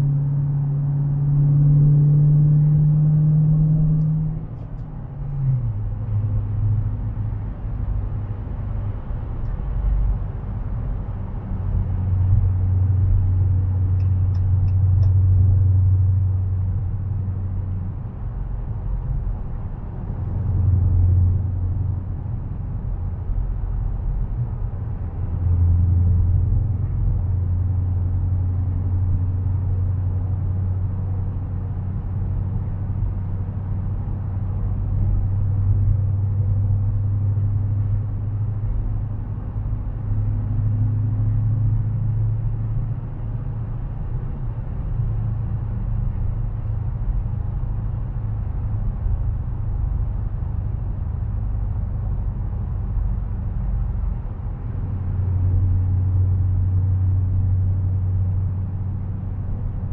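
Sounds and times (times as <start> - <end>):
car engine and exhaust hum: 0.0 - 59.9.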